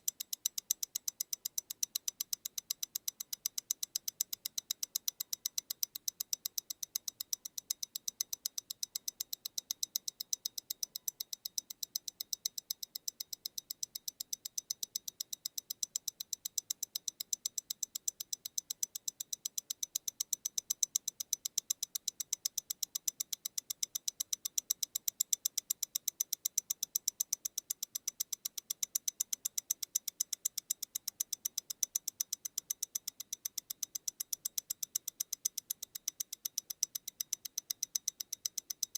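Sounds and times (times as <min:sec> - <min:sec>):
wristwatch ticking: 0:00.0 - 0:38.9.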